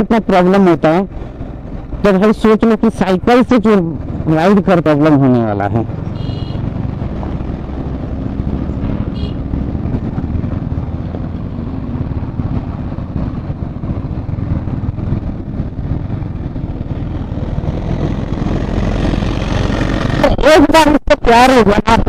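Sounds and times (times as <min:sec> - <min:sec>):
motorcycle engine rumble: 0:00.0 - 0:20.6.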